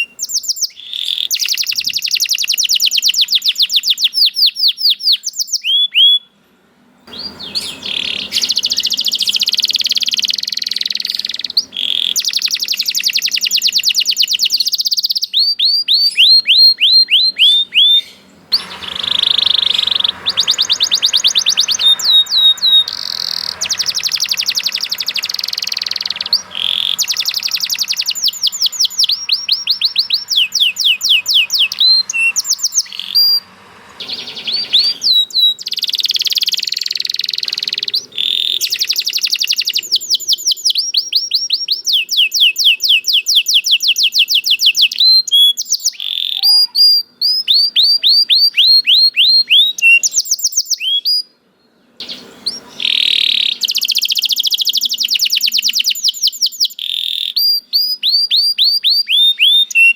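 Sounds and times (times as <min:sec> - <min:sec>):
canary singing trills: 0:00.0 - 0:06.4, 0:07.1 - 0:59.9.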